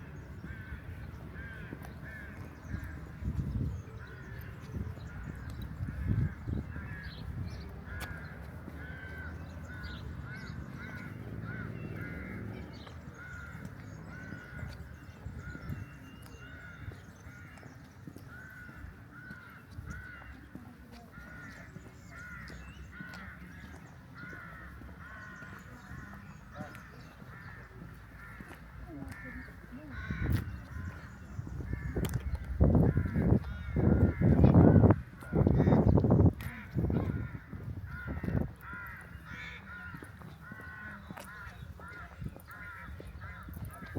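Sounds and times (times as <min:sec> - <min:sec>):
flock of birds calling: 0:00.0 - 0:43.9
low rumble of town: 0:00.0 - 0:43.9.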